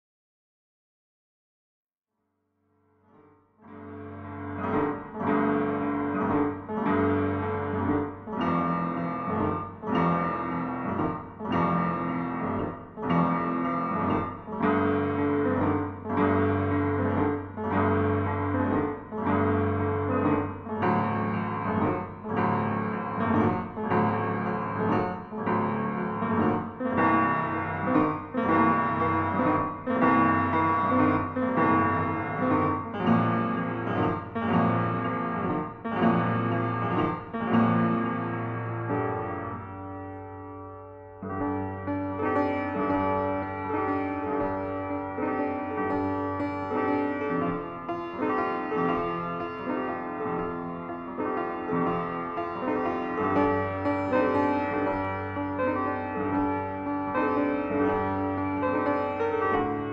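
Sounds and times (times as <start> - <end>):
piano chords: 3.4 - 59.9.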